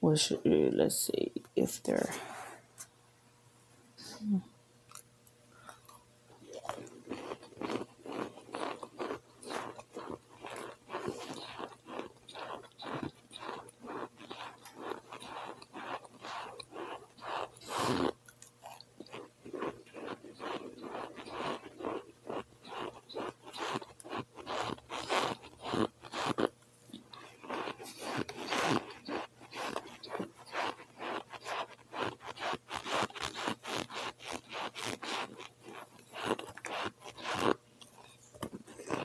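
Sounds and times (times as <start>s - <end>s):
person chewing: 4.9s - 39.0s.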